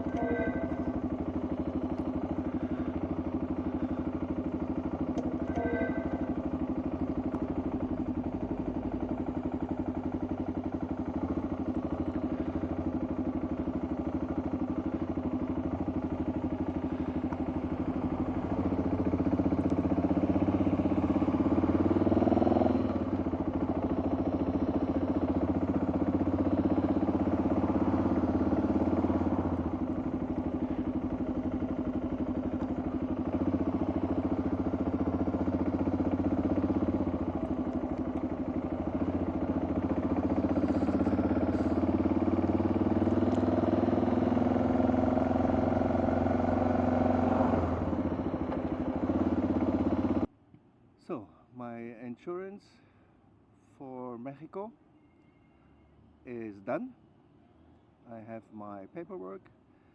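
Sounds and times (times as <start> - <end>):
motorcycle engine running: 0.0 - 50.3.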